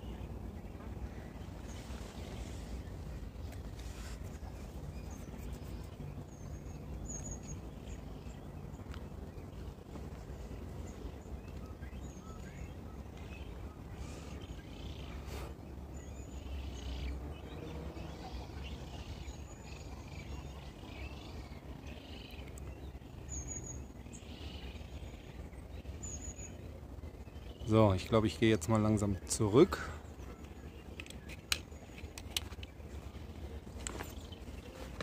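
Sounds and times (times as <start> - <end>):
birds chirping: 0.0 - 35.0
steady low rumble: 0.0 - 35.0.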